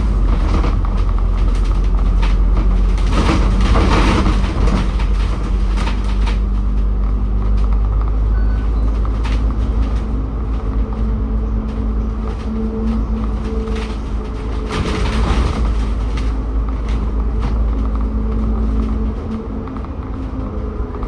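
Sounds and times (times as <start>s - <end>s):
bus engine and road rumble: 0.0s - 21.0s
short rattles and knocks: 0.0s - 21.0s.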